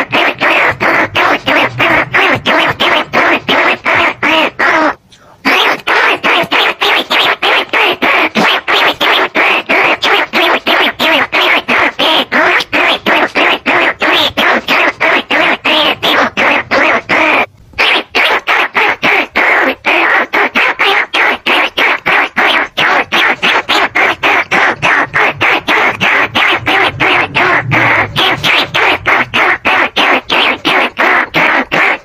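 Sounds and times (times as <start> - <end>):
rat squeaks: 0.0 - 32.0.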